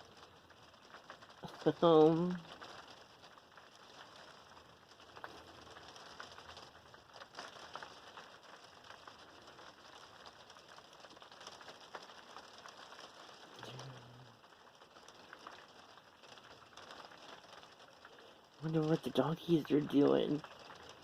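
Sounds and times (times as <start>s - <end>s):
rain on trailer roof: 0.0s - 21.0s.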